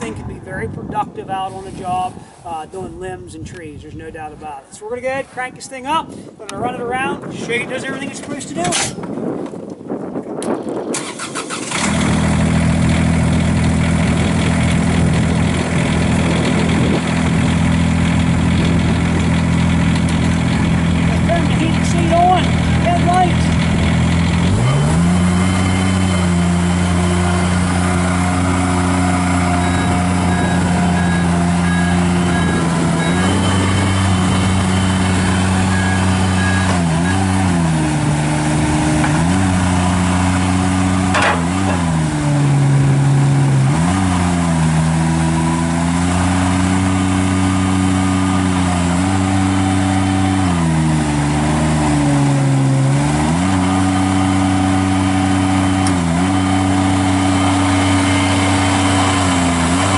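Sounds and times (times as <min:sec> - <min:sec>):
diesel engine at high revs: 0:10.9 - 0:59.9.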